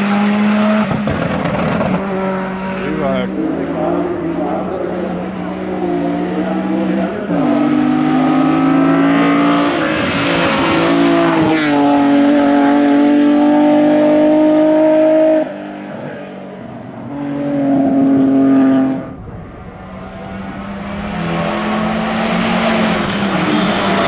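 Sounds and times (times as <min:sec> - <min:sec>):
race car engine at full throttle: 0:00.0 - 0:24.0.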